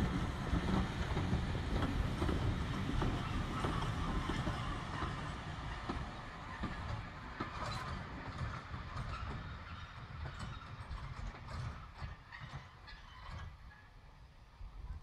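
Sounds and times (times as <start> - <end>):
steam train rumbling on rails: 0.0 - 15.0.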